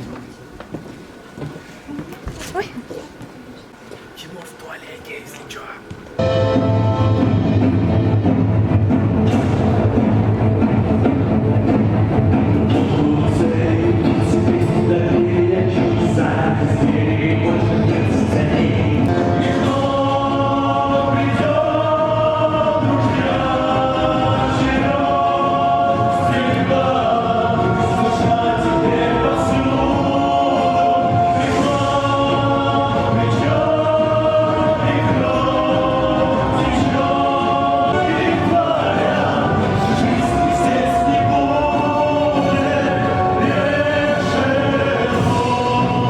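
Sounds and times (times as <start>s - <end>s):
choir singing held notes: 6.2s - 46.0s
musical accompaniment: 6.2s - 46.0s.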